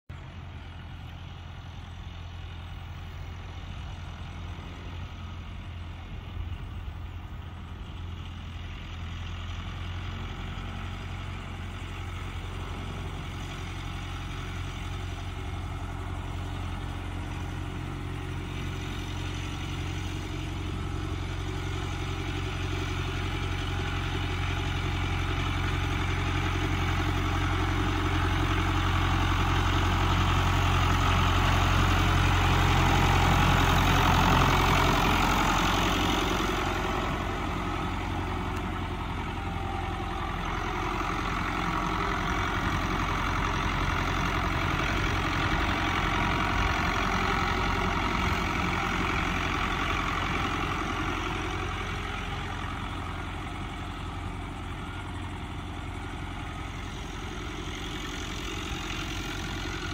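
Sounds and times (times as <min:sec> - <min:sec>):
tractor diesel engine running: 0:00.1 - 0:59.9.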